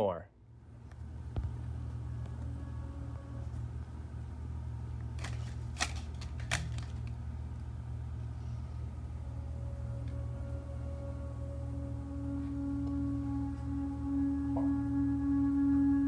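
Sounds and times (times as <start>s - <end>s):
low hum: 0.3s - 16.0s.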